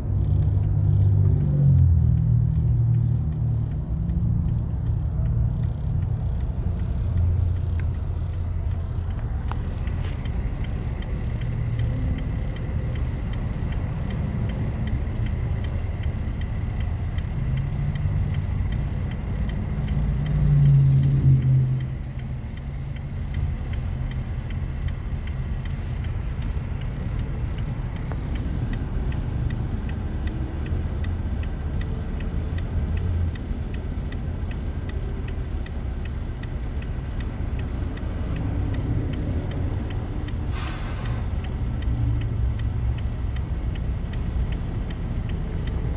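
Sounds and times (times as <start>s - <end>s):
vehicle engine and road rumble: 0.0s - 45.9s.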